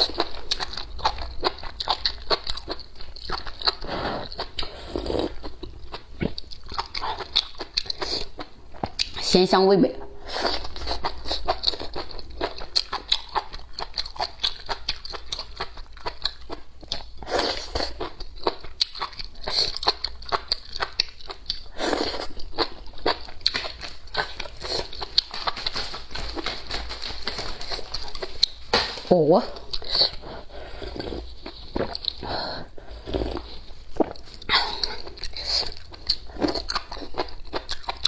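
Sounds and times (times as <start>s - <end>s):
chewing with wet mouth clicks: 0.0s - 9.3s, 10.5s - 25.9s, 29.6s - 30.2s, 30.9s - 32.3s, 33.1s - 38.0s.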